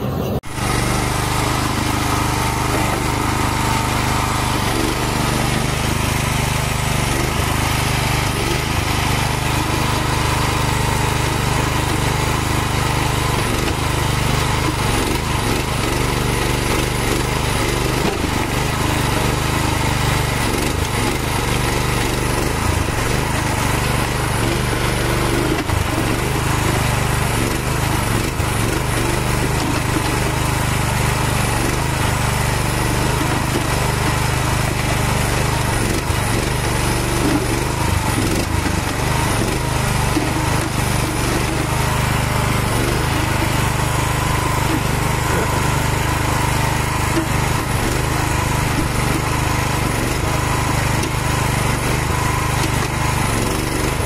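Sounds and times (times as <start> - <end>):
small excavator engine running: 0.0 - 54.0.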